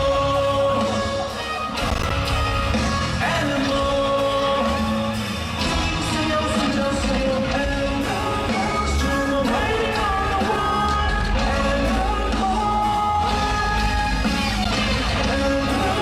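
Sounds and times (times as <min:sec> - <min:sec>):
live pop-rock band playing: 0:00.0 - 0:16.0
person singing: 0:00.0 - 0:16.0.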